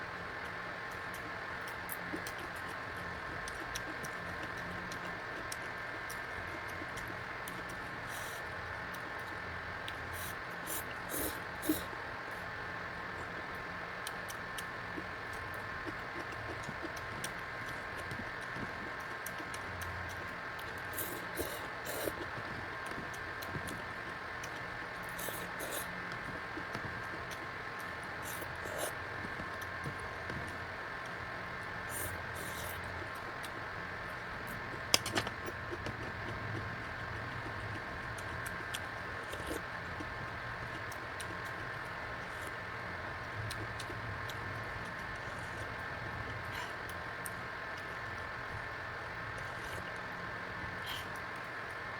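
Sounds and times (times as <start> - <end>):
electric fan humming: 0.0 - 51.9.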